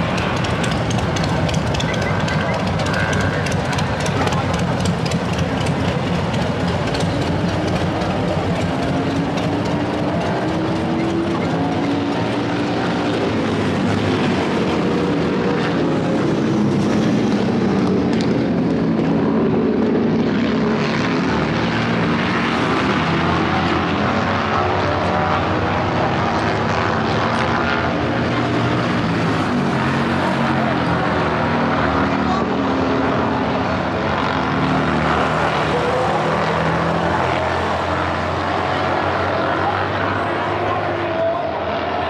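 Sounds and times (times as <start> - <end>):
motorcycle engines running: 0.0 - 42.0.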